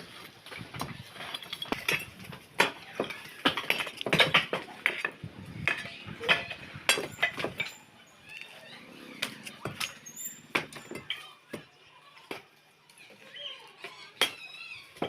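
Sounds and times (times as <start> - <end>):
tools and debris clinking: 0.4 - 12.5.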